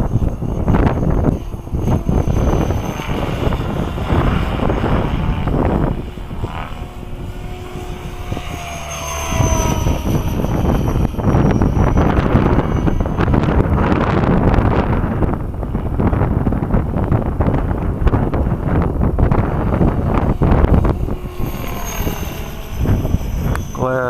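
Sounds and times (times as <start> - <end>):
rc helicopter motor and rotor whine: 0.0 - 24.0
wind buffeting microphone: 0.0 - 24.0.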